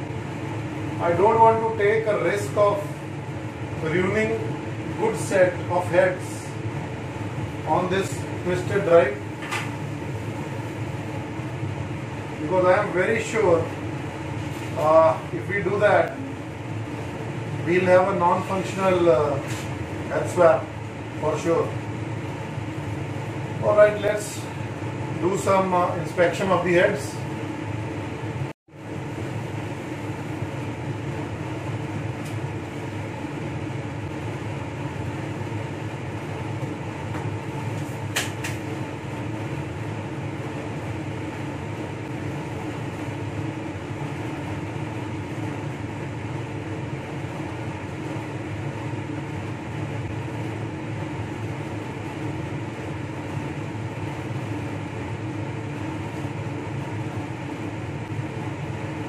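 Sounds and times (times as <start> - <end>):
fan humming: 0.0 - 59.0.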